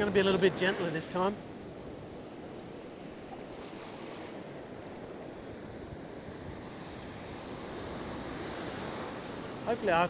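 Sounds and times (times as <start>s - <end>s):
ocean surf breaking: 0.0s - 10.0s.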